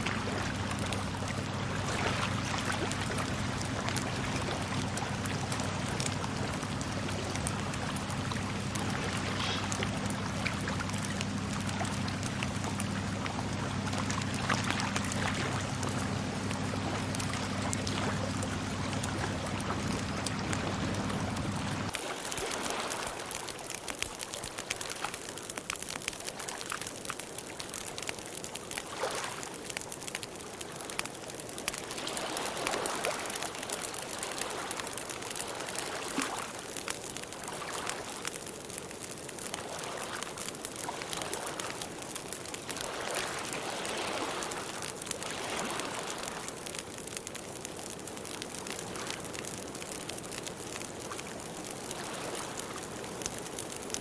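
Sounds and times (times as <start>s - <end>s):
small water splashes: 0.0s - 54.0s
water running and trickling: 0.0s - 54.0s.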